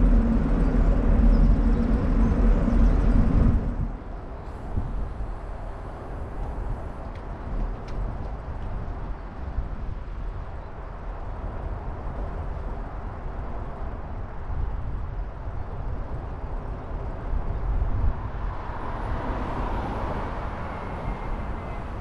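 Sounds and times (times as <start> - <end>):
bicycle road noise: 0.0 - 22.0
wind buffeting microphone: 0.0 - 22.0.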